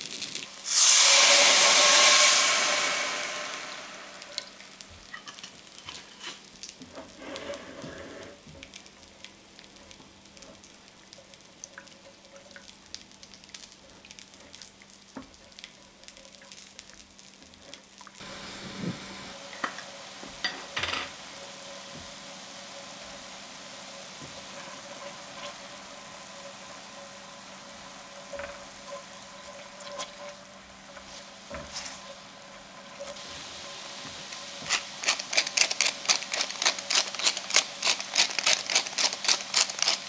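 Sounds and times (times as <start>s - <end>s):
wine sizzling in a hot pan: 0.0s - 40.0s.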